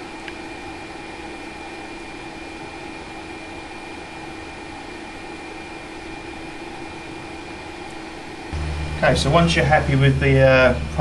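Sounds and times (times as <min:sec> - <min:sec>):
fan-like machine hum and hiss: 0:00.0 - 0:11.0
thin high whine: 0:00.0 - 0:11.0.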